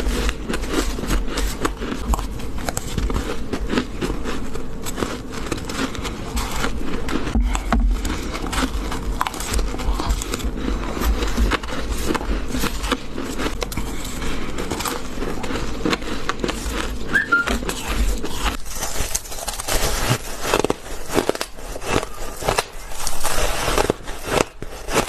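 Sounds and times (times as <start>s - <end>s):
chewing and crunching ice: 0.0s - 25.0s.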